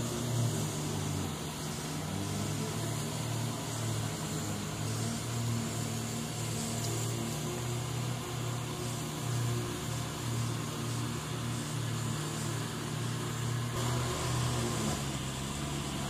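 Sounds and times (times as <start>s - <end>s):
fan hiss: 0.0s - 16.0s
low mechanical hum: 0.0s - 16.0s.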